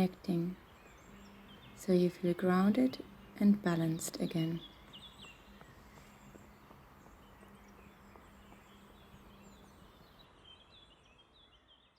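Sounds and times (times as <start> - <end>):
low background hiss: 0.0 - 11.9.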